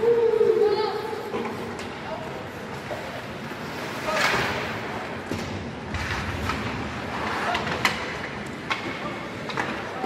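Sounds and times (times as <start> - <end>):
skates scraping rush: 0.0 - 10.0.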